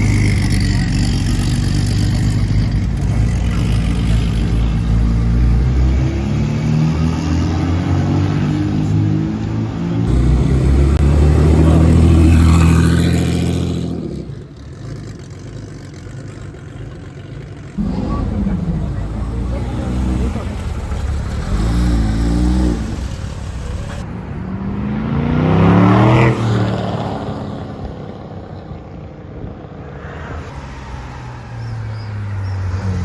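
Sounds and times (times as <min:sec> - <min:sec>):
sports car engine revving: 0:00.0 - 0:28.2.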